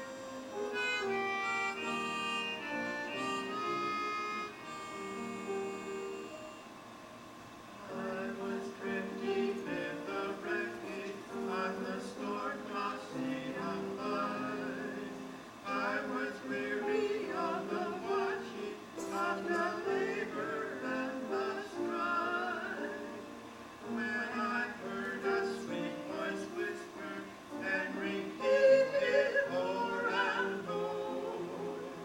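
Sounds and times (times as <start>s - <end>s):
live gospel music: 0.0s - 6.5s, 7.8s - 32.0s.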